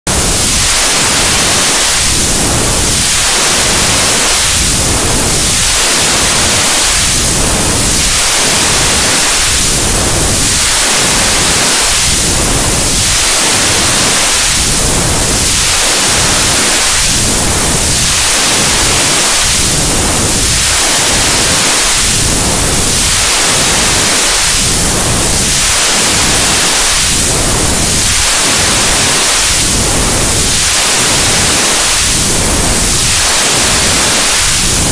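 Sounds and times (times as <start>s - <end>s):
loud white noise: 0.0s - 34.9s.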